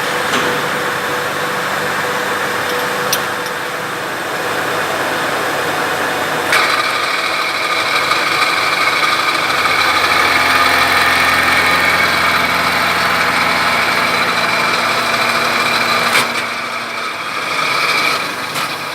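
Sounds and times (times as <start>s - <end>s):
milling machine cutting: 0.0s - 18.9s.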